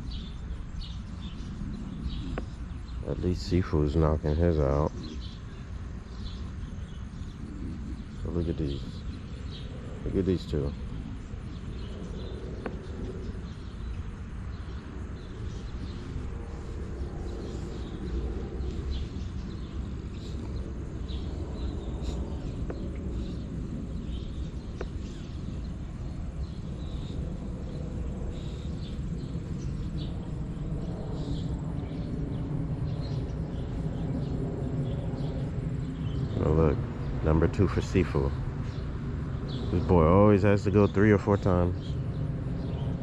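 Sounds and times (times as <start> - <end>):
low rumble: 0.0 - 40.8
insects and birds chirping: 0.0 - 43.0.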